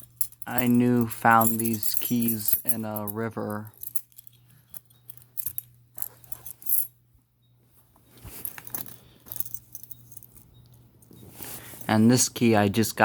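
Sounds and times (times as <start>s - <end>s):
keys jingling: 0.0s - 6.9s, 8.3s - 11.9s
faint steady hum: 0.0s - 13.0s.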